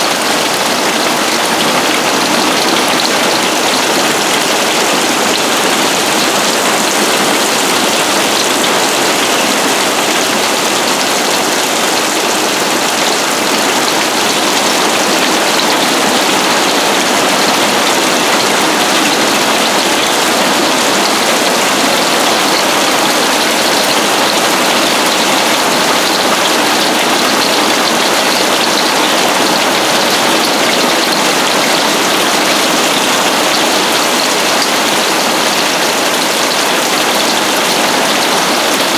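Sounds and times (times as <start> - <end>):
hail pelting down: 0.0 - 38.9.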